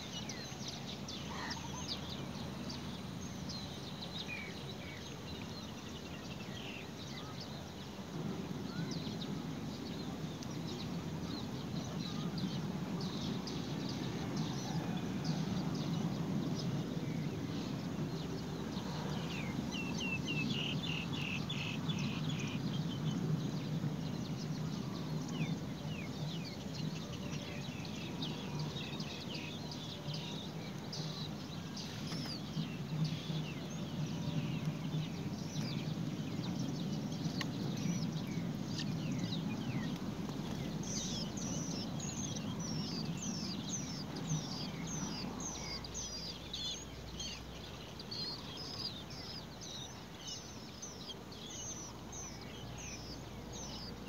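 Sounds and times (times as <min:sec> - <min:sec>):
nestling birds high chirps: 0:00.0 - 0:54.0.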